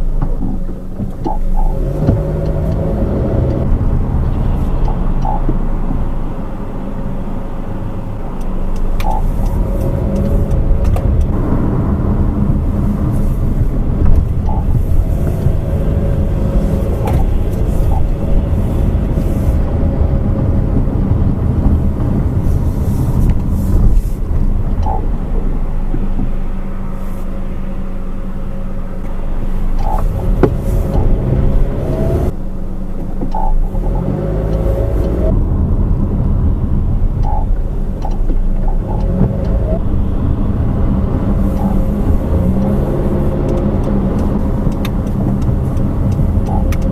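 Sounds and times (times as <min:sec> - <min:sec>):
road and drivetrain rumble: 0:00.0 - 0:46.9.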